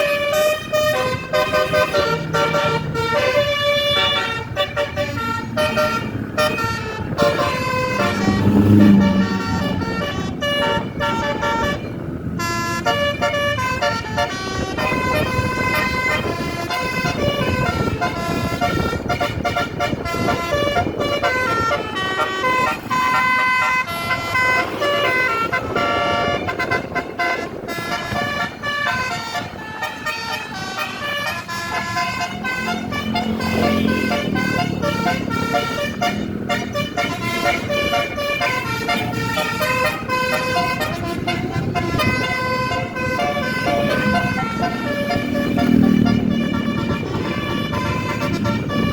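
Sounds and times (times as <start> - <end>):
bus horn playing quick tune: 0.0 - 48.9
engine and road rumble: 0.0 - 48.9.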